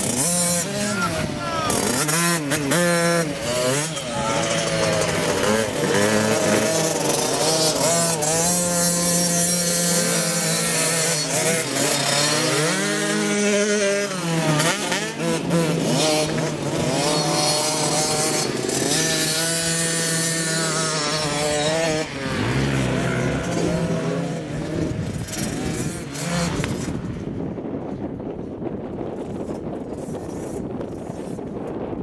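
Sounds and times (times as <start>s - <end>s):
motocross bike engines buzzing: 0.0s - 32.0s.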